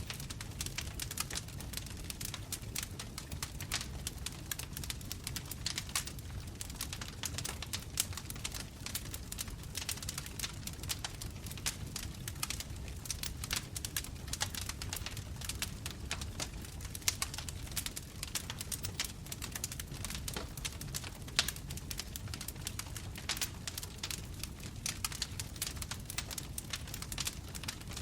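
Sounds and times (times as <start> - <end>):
bonfire crackling and popping: 0.0 - 28.0
low rumble of flames: 0.0 - 28.0.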